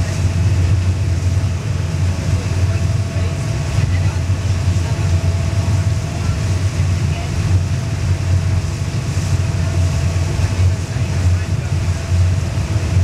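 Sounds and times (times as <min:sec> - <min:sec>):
hiss of wind and water: 0:00.0 - 0:13.0
ship engine drone: 0:00.0 - 0:13.0.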